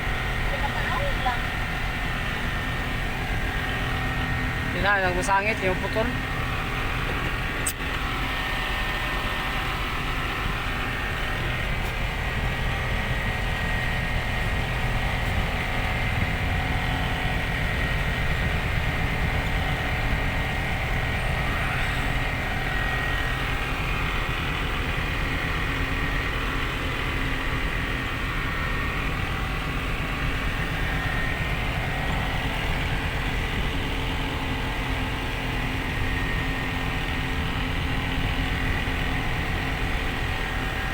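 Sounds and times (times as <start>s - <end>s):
road noise: 0.0s - 40.9s
truck engine running: 0.0s - 40.9s.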